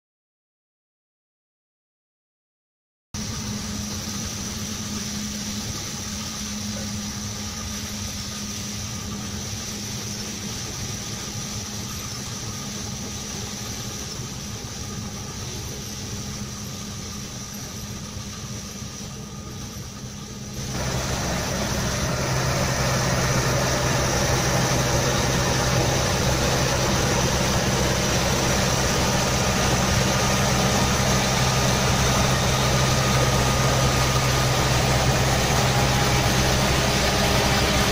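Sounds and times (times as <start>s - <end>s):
deep engine drone: 3.2s - 37.9s
tractor engine running under load: 3.2s - 37.9s.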